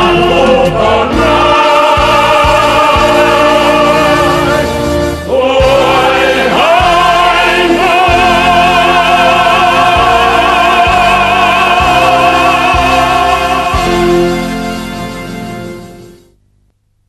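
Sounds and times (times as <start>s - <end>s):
sustained band chords: 0.0s - 16.4s.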